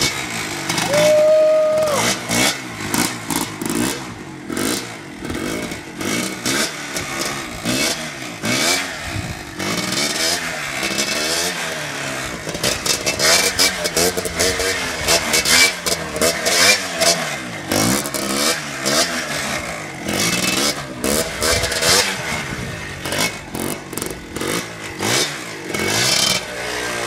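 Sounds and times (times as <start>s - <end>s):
small motorcycle engine revving: 0.0s - 27.0s.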